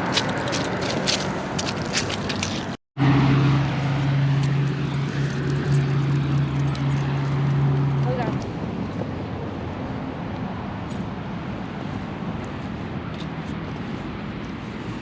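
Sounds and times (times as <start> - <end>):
low steady engine hum: 0.0 - 15.0
street noise: 0.0 - 15.0.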